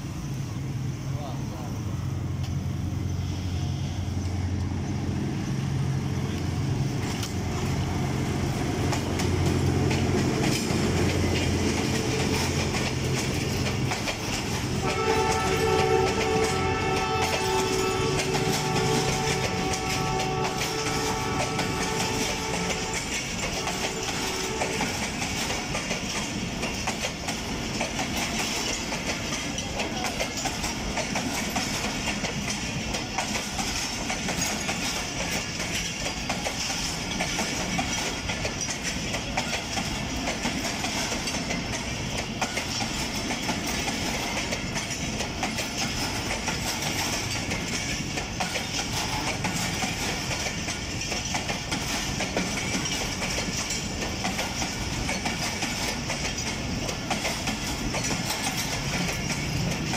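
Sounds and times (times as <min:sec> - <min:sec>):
train wheels rumbling on track: 0:00.0 - 0:59.9
wheels clattering over rail joints: 0:05.8 - 0:59.9.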